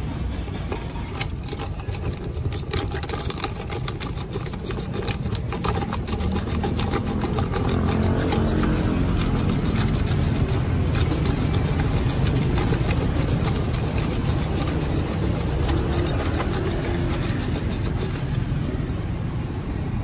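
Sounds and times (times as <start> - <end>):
whisk ticking against jug: 0.7 - 18.6
electric whisk running: 1.2 - 18.7.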